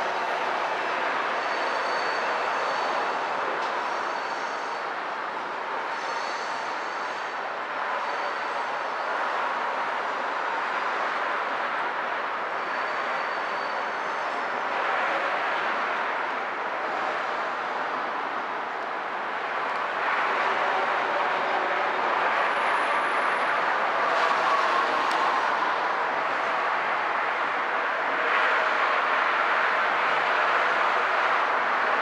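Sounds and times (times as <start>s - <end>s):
freight cars rolling on rails: 0.0s - 32.0s.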